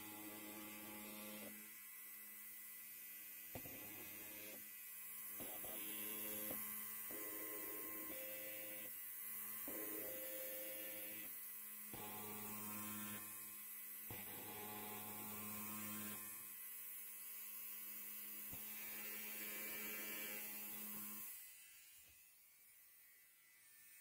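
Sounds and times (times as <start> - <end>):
electric hair clipper buzzing: 0.0 - 24.0.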